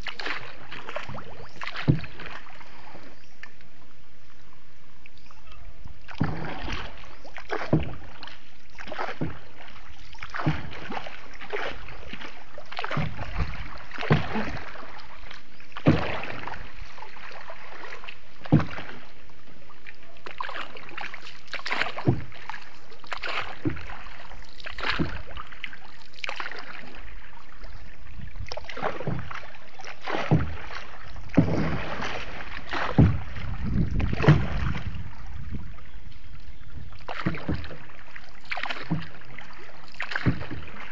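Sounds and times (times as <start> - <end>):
paddle strokes splashing in water: 0.0 - 40.9.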